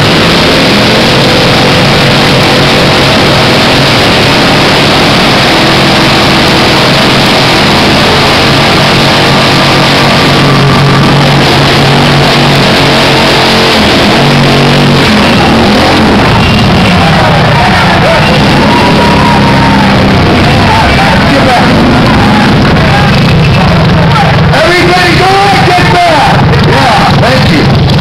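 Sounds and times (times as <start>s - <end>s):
motorcycle engines revving: 0.0s - 28.0s
rock music: 0.0s - 28.0s.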